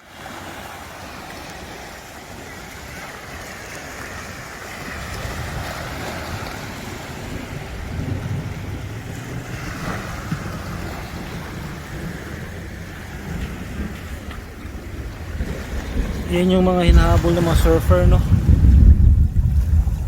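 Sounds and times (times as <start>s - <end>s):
sea waves washing ashore: 0.0s - 20.0s
wind buffeting microphone: 0.1s - 20.0s.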